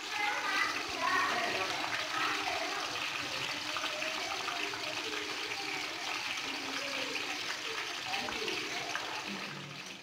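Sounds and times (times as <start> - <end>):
deep-frying sizzle in oil: 0.0 - 10.0.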